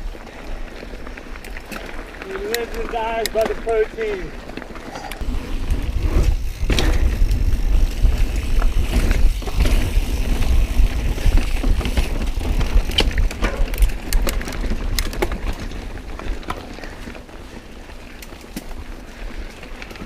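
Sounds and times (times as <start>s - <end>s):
bike chain and frame rattling: 0.0s - 20.0s
bike tyres on dirt and rock: 0.0s - 20.0s.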